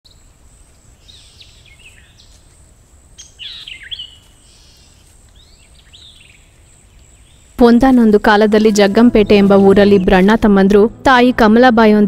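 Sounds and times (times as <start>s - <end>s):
birds chirping: 0.1s - 11.1s.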